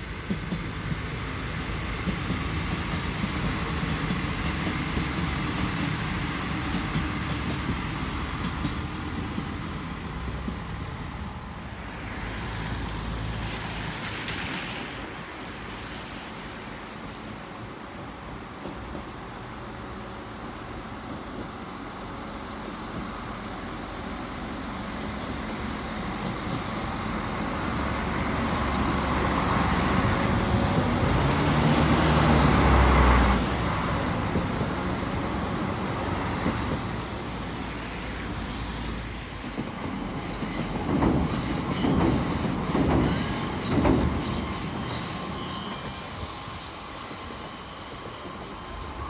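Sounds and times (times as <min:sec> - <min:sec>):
train passing: 0:00.0 - 0:49.0.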